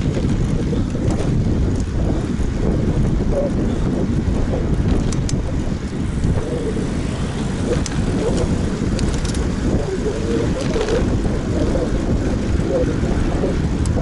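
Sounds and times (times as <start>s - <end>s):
road bike rumbling on pavement: 0.0s - 14.0s
wind buffeting microphone: 0.0s - 14.0s.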